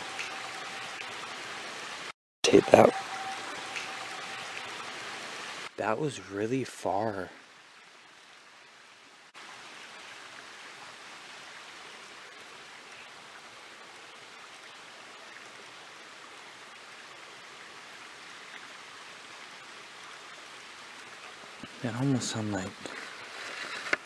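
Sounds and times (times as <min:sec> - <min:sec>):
forest creek rushing: 0:00.0 - 0:24.0.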